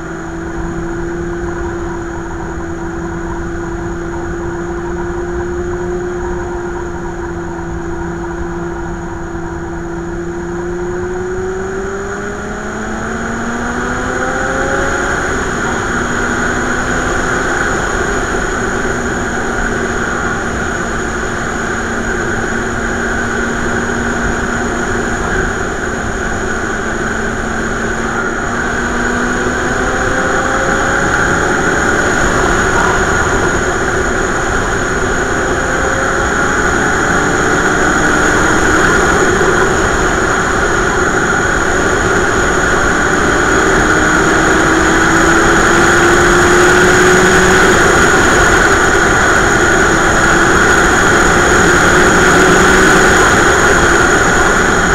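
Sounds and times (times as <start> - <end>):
motorcycle engine drone: 0.0 - 54.9
wind rush over microphone: 0.0 - 54.9.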